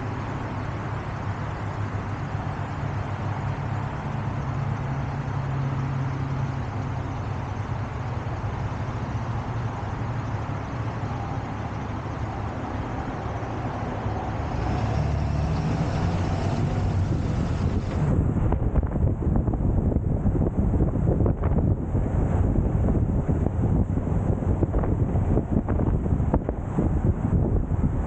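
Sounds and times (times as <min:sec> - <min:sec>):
road and traffic noise: 0:00.0 - 0:28.0
truck engine running: 0:00.0 - 0:28.0.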